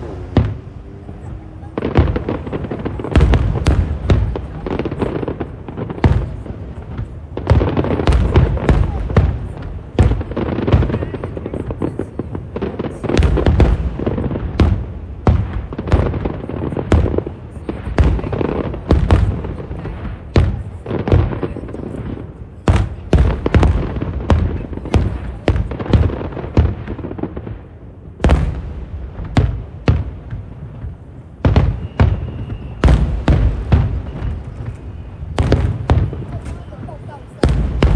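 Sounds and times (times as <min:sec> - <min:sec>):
fireworks bursting: 0:00.0 - 0:37.9.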